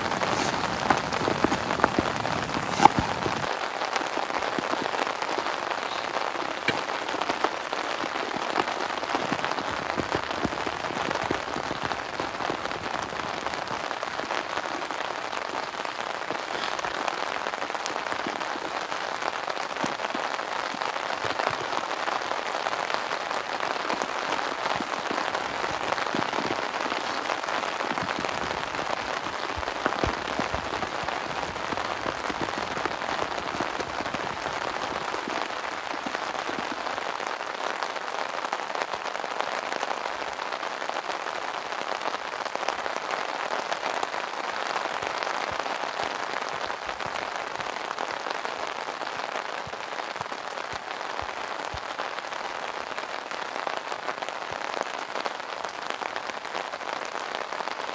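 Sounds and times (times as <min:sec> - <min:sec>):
rain falling on a tarp: 0:00.0 - 0:57.9.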